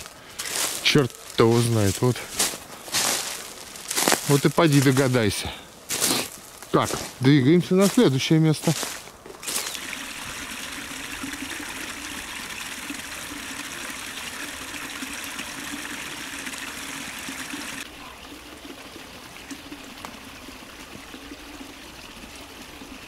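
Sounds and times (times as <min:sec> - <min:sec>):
stream running water: 0:00.0 - 0:23.0.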